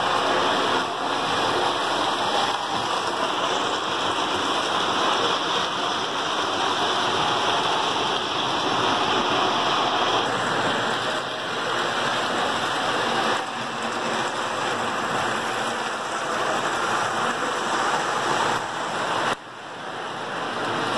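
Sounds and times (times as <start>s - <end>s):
toy trains whirring on metal track: 0.0s - 19.4s.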